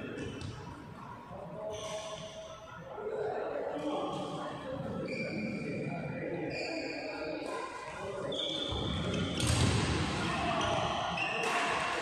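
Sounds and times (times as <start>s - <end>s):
voices in a large hall: 0.0s - 12.0s.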